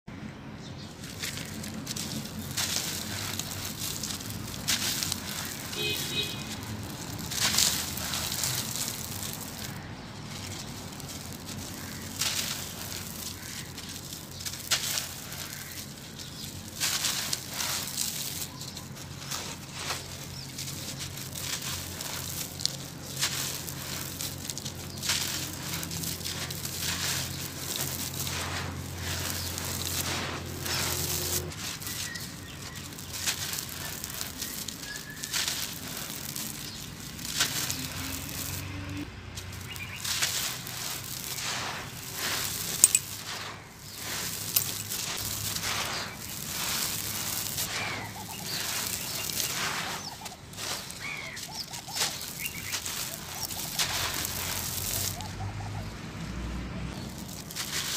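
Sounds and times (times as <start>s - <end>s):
dry sand crunching and crackling: 0.1s - 57.9s.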